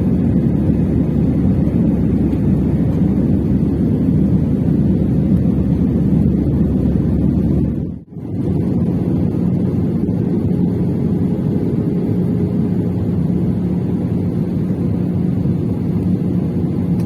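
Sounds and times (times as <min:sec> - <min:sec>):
airliner engines and airflow rumble: 0:00.0 - 0:17.0
steady hum: 0:00.0 - 0:17.0.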